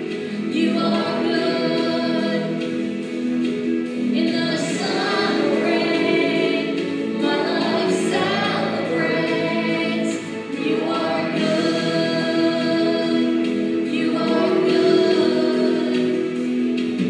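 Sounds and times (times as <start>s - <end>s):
choir singing with accompaniment: 0.0s - 17.0s.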